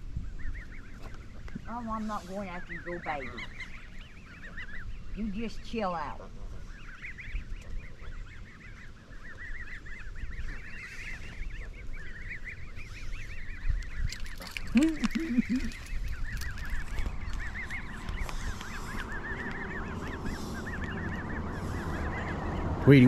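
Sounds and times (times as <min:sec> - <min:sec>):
goslings peeping: 0:00.0 - 0:23.0
lower goose calls: 0:00.3 - 0:23.0.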